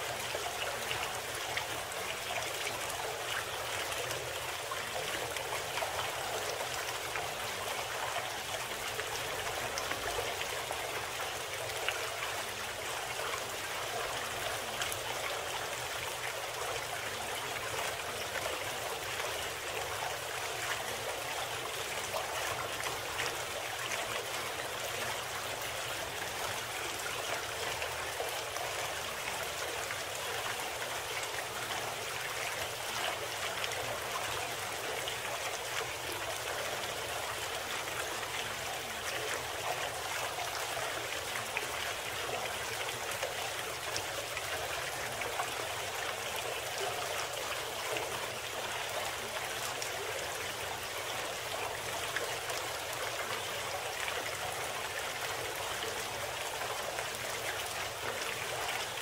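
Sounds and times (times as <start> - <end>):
running water babbling: 0.0 - 59.0.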